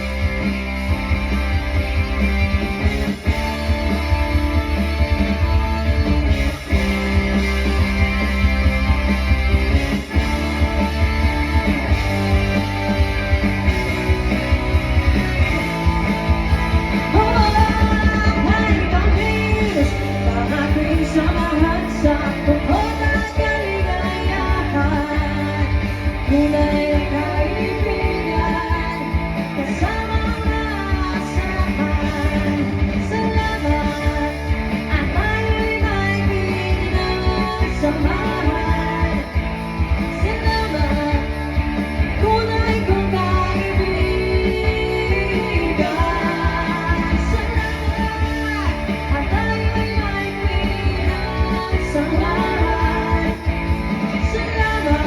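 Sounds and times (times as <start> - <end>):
live rock band playing: 0.0 - 55.0
person singing: 10.0 - 55.0.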